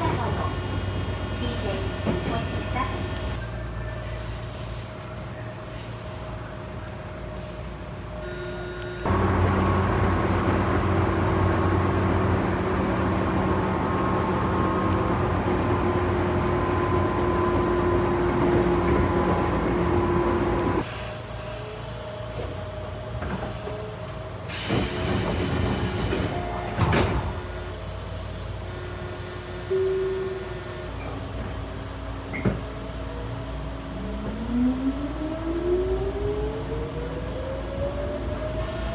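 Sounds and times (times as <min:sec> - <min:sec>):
train running noise: 0:00.0 - 0:38.9.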